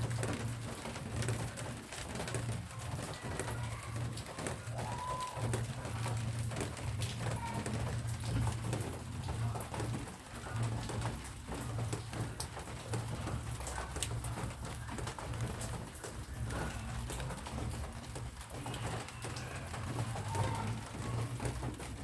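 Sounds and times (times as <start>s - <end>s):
rain dripping: 0.0s - 22.0s.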